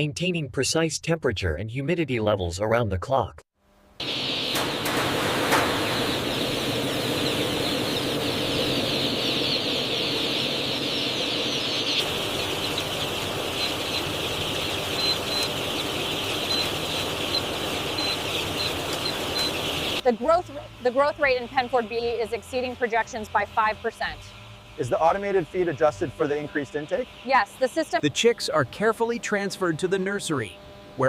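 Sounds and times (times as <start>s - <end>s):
baby chicks peeping: 4.0s - 30.6s.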